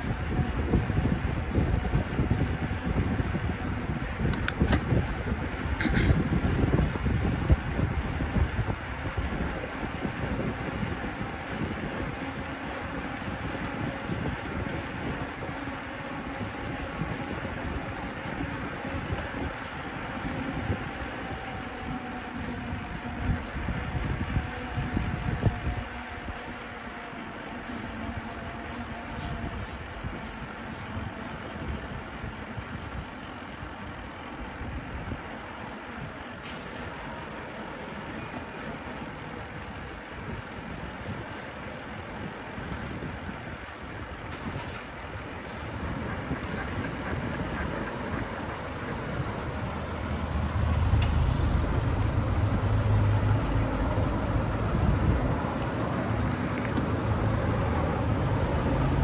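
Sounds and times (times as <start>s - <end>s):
bicycle rolling: 0.0s - 59.0s
street traffic noise: 0.0s - 59.0s.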